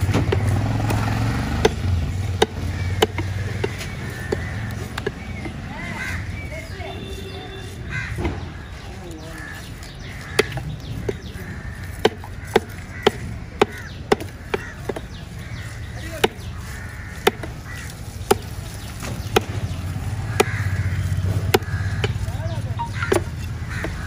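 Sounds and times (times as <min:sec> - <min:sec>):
cleaver chopping on wooden block: 0:00.0 - 0:05.7, 0:09.8 - 0:24.0.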